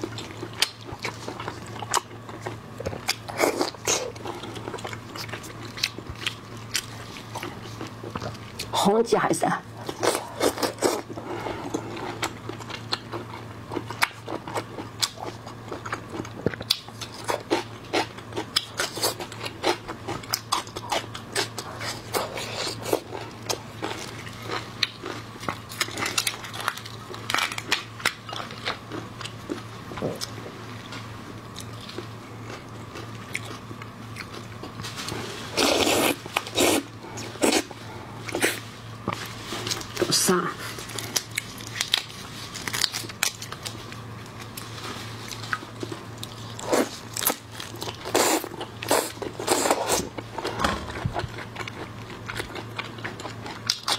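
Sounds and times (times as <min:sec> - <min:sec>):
chewing and crunching seafood: 0:00.0 - 0:53.9
steady low hum: 0:00.0 - 0:53.9.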